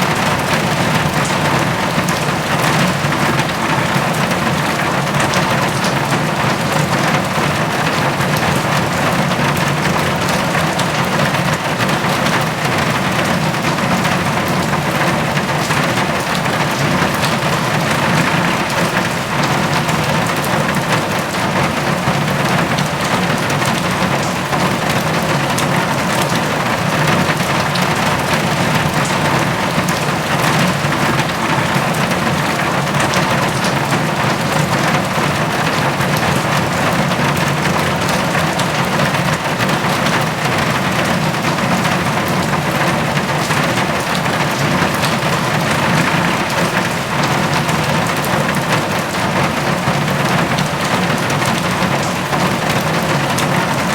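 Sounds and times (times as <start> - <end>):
heavy rain falling: 0.0 - 53.9
raindrops pattering: 0.0 - 53.9.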